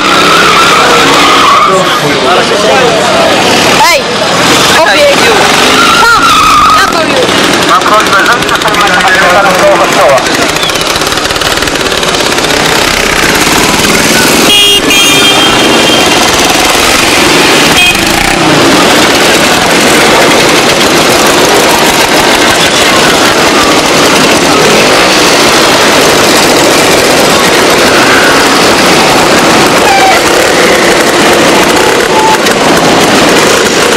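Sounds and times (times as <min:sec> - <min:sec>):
motorcycles riding past: 0:00.0 - 0:33.9.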